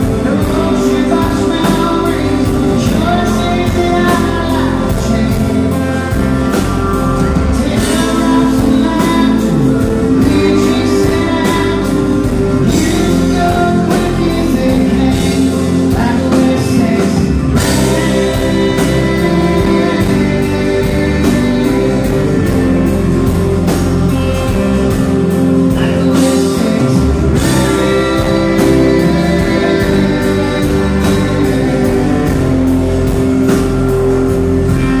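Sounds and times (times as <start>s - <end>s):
country-rock band playing: 0.0s - 35.0s
man singing: 0.0s - 35.0s.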